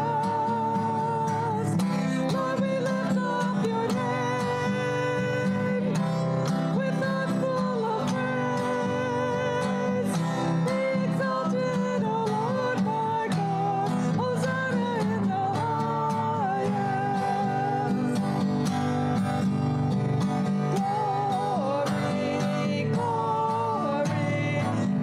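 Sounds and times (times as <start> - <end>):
women singing together: 0.0 - 18.2, 20.7 - 25.0
strummed acoustic guitar: 0.0 - 25.0.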